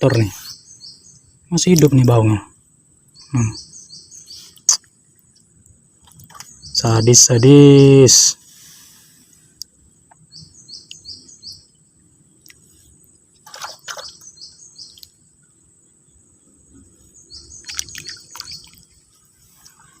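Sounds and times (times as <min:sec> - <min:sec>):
bird chirping: 0:00.0 - 0:02.4, 0:03.1 - 0:08.2, 0:10.2 - 0:12.5, 0:13.4 - 0:20.0.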